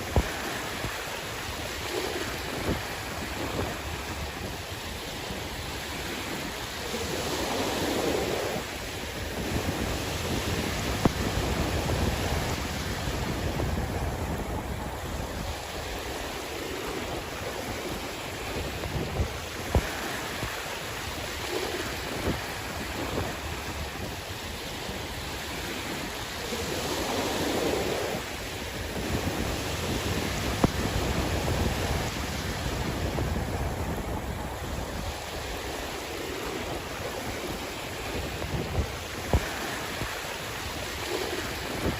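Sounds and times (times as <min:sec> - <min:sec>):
sea waves washing ashore: 0:00.0 - 0:41.9
wind rumbling on microphone: 0:00.0 - 0:41.9.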